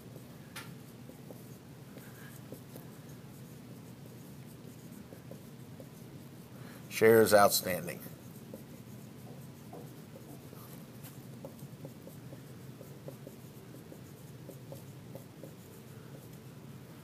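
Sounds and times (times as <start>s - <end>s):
low room hum: 0.0s - 17.0s
marker squeaking on whiteboard: 0.8s - 16.5s.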